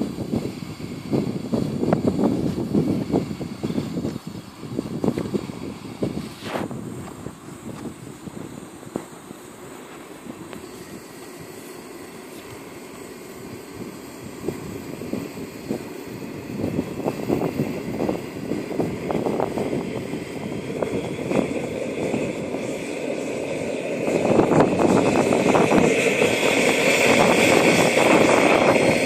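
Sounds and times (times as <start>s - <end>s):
high turbine whine: 0.0s - 29.0s
model helicopter turbine running: 0.0s - 29.0s.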